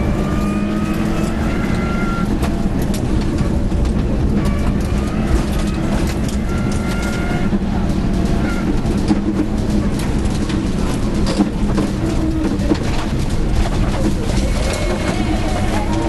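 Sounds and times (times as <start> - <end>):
rally car engine: 0.0 - 16.0
road noise: 0.0 - 16.0.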